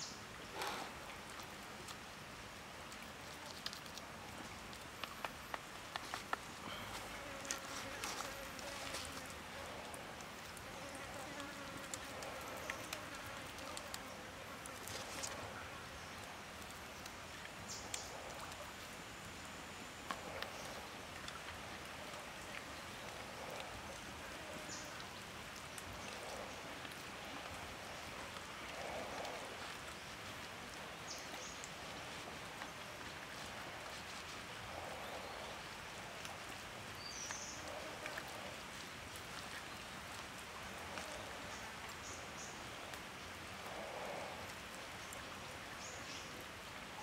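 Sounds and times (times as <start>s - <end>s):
leaf rustling: 0.0s - 47.0s.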